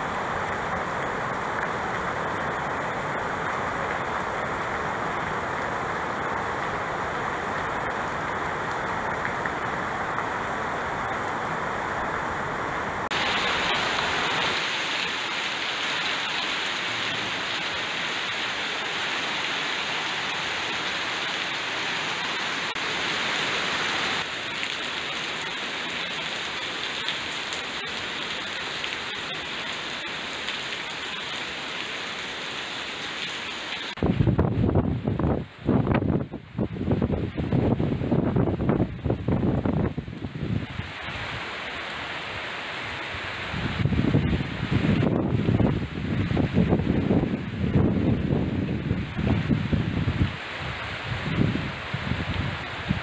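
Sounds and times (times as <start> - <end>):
heavy rain on trees and leaves: 0.0 - 53.0.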